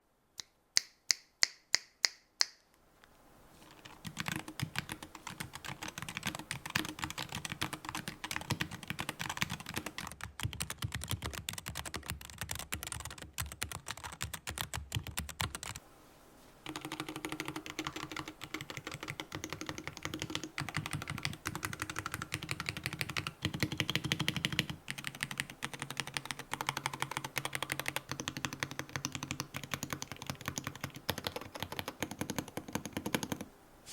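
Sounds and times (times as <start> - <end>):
fast typing on keyboard: 3.7 - 15.8, 16.6 - 33.5.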